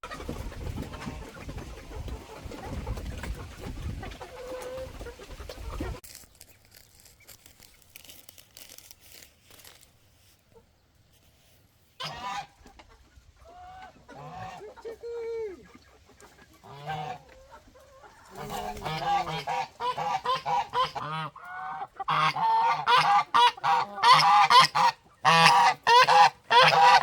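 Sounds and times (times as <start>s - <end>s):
chickens calling: 0.0s - 27.0s.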